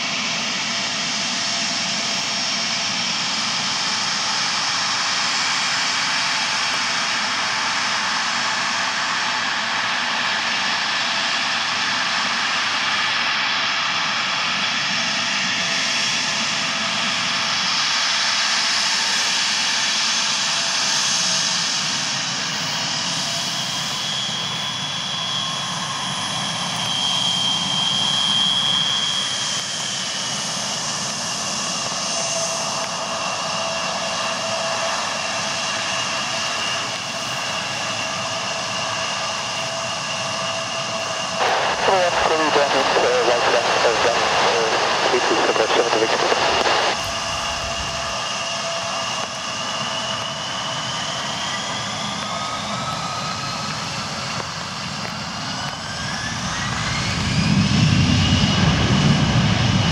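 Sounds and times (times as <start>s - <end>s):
high engine whine: 0.0s - 59.9s
jet engine roar: 0.0s - 59.9s.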